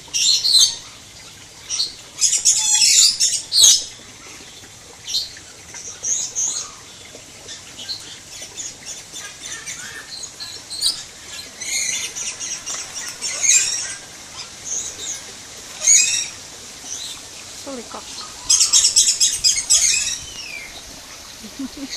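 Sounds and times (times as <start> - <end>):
birds chirping and twittering: 0.0 - 21.9.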